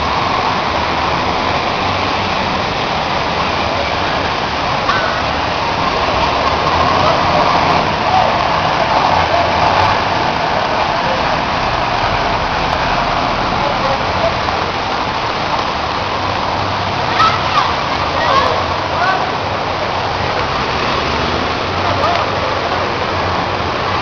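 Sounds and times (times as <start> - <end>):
heavy rain: 0.0 - 24.0
running floodwater: 0.0 - 24.0.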